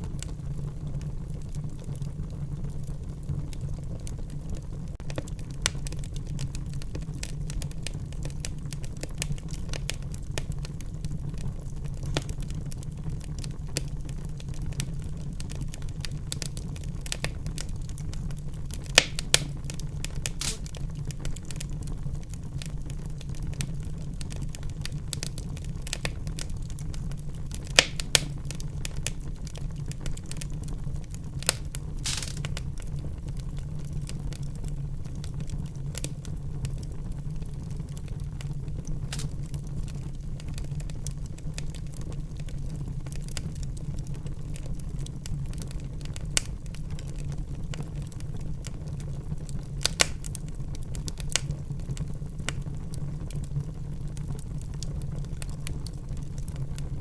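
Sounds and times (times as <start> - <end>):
fire pops: 0.0 - 57.0
low rumble of flames: 0.0 - 57.0
wood fire crackling: 0.0 - 57.0.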